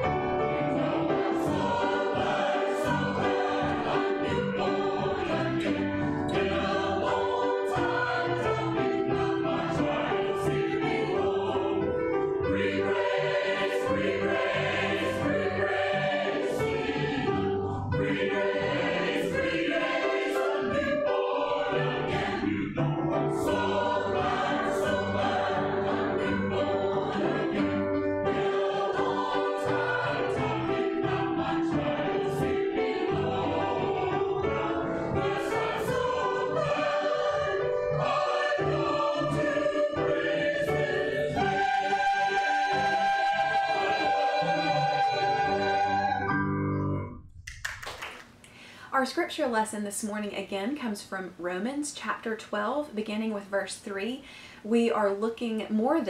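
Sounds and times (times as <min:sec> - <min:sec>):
choir singing: 0:00.0 - 0:46.6.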